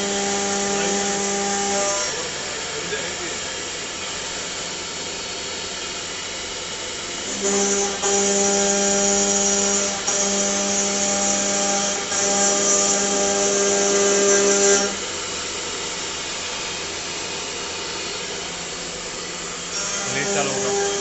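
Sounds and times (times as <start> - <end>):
lathe whine: 0.0 - 21.0.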